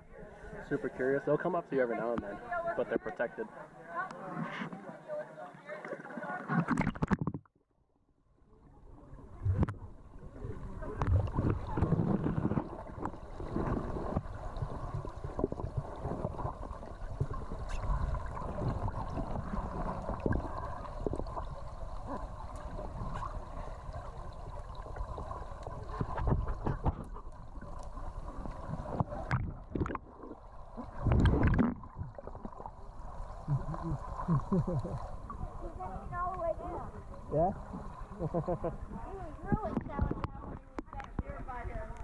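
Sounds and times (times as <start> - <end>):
muffled underwater rumble: 8.4 - 42.0.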